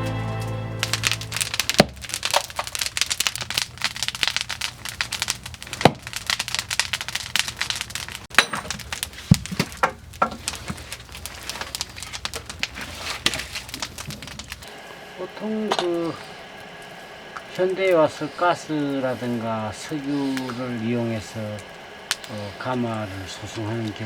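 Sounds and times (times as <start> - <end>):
firewood crackling and popping: 0.0 - 24.0.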